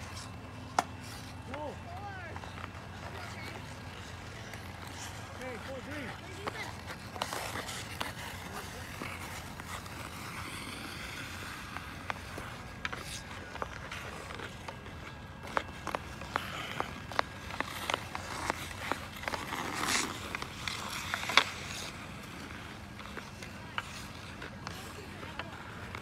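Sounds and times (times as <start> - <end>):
hockey sticks clacking on puck: 0.0 - 26.0
skate blades scraping ice: 0.0 - 26.0.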